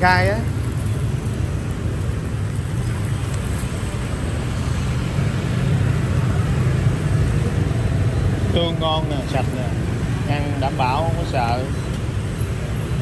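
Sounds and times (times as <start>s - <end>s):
busy city street traffic: 0.0s - 13.0s.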